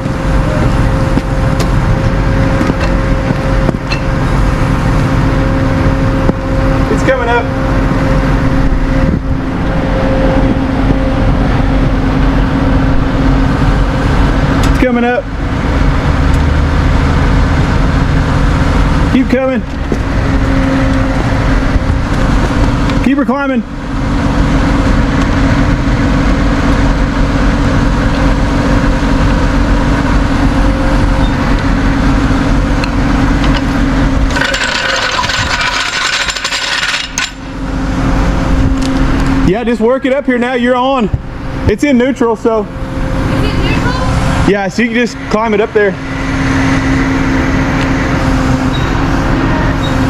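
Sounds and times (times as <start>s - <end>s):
vehicle engine droning: 0.0s - 50.0s.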